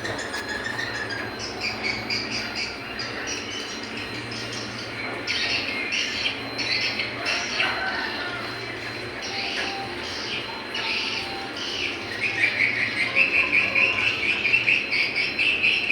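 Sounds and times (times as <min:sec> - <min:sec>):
small birds chirping and squawking: 0:00.0 - 0:15.9.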